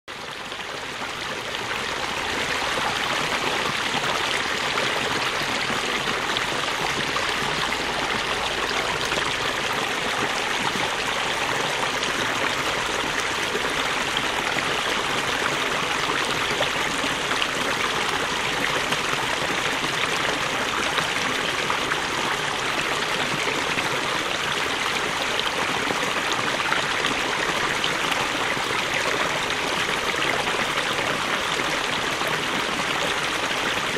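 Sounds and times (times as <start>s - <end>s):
water flowing over small waterfall: 0.1s - 33.9s.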